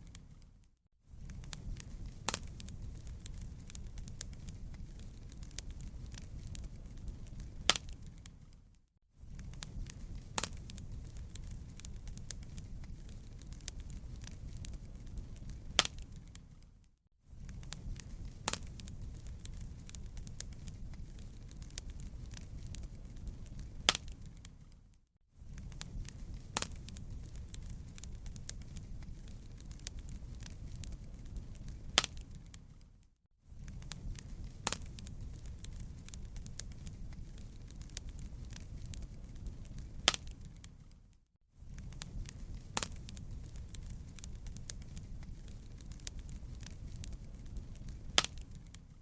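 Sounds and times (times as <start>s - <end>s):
wood fire crackling: 0.0s - 49.0s
loud fire pops: 1.2s - 8.4s, 9.3s - 16.6s, 17.4s - 24.6s, 25.5s - 32.7s, 33.6s - 40.8s, 41.7s - 48.9s.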